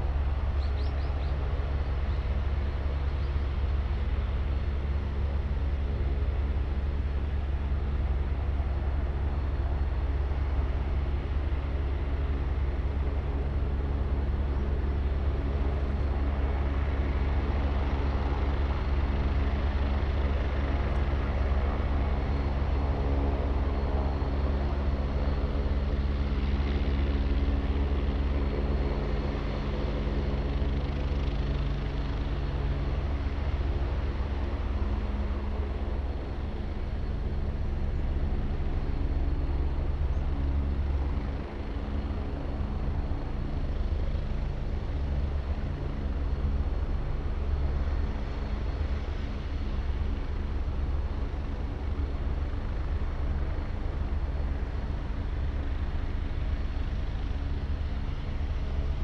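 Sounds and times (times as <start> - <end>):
helicopter engine and rotor hum: 0.0 - 59.0.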